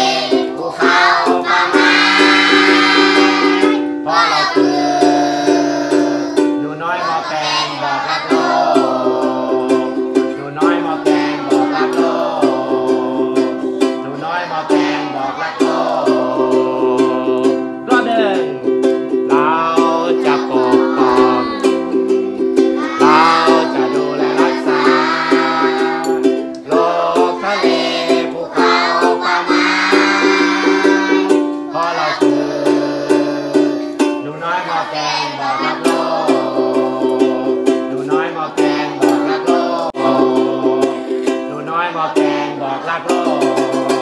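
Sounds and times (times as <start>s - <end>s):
children singing in unison: 0.0s - 17.6s, 19.5s - 44.0s
strummed ukulele: 0.0s - 44.0s.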